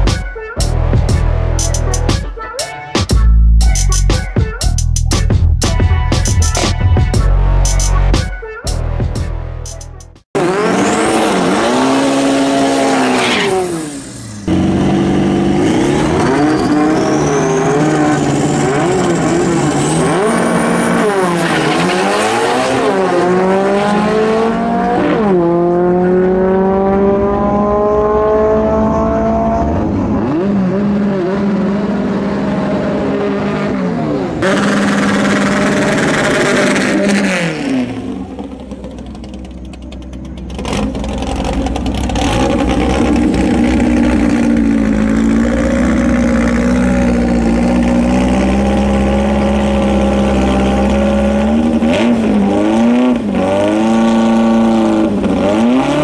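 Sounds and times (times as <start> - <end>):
cars accelerating with gear changes: 10.4 - 56.0
drag car engines revving: 10.4 - 56.0.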